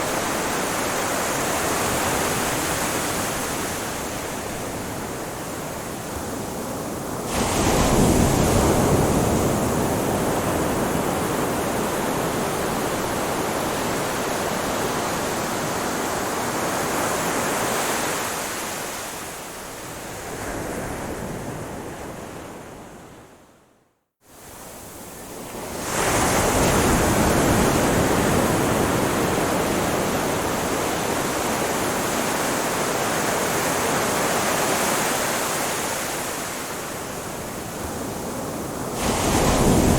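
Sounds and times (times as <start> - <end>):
ocean waves washing on shore: 0.0 - 23.2, 24.3 - 39.9.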